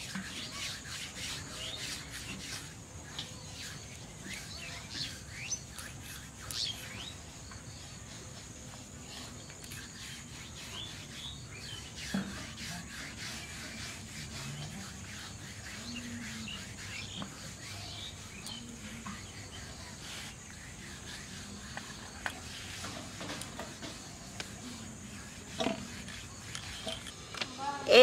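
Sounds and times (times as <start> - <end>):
hand rubbing dough on stone: 0.0 - 28.0
small birds chirping: 0.0 - 28.0.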